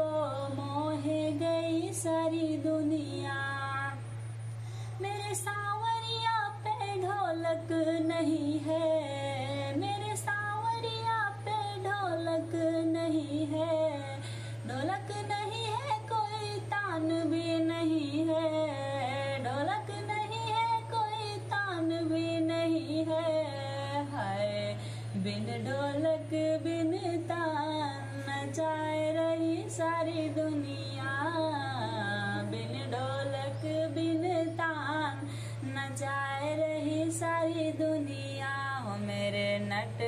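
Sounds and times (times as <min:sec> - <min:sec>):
devotional singing: 0:05.0 - 0:40.0.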